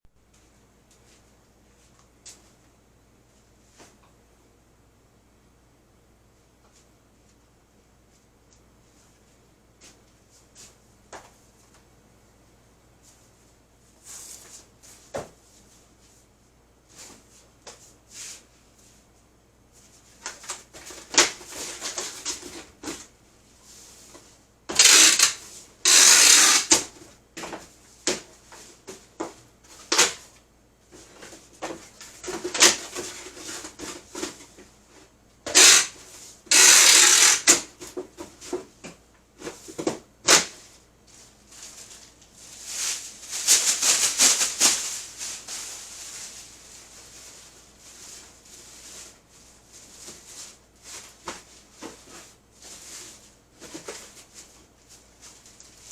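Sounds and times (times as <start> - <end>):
rustling and scraping by hand: 8.1 - 11.9, 12.9 - 55.9.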